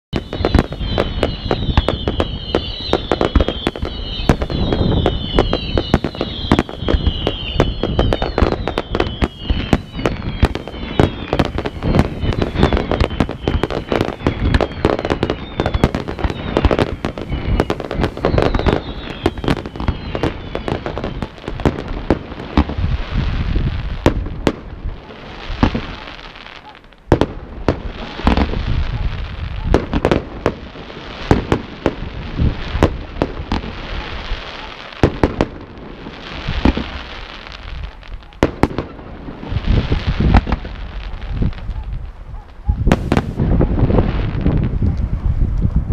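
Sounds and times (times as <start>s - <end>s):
firework bangs: 0.1s - 45.2s
firework crackling: 0.1s - 45.9s
whistling firework shells: 0.2s - 45.1s.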